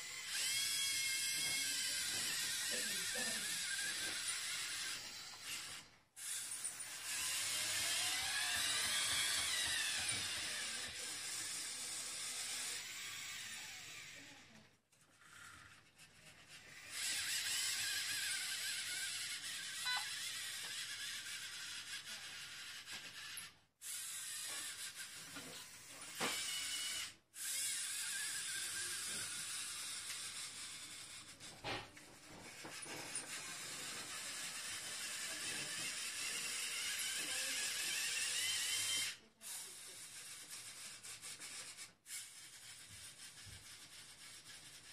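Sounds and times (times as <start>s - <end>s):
robot arm motors whirring: 0.0s - 44.9s.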